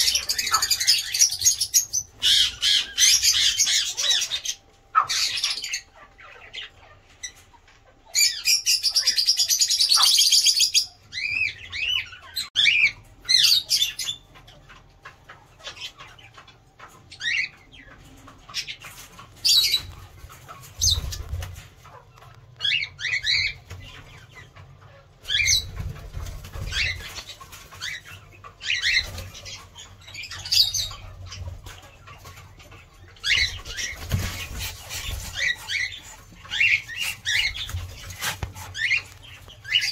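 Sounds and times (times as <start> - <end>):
aviary birds chirping and squawking: 0.0 - 39.9.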